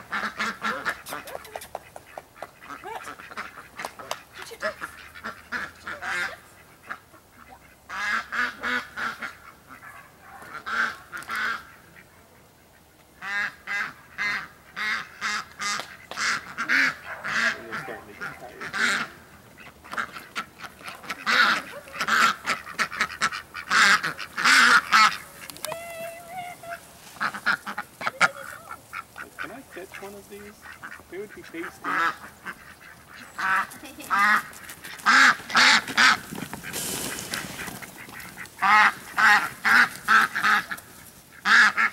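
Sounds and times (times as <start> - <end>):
ducks quacking: 0.0 - 41.9.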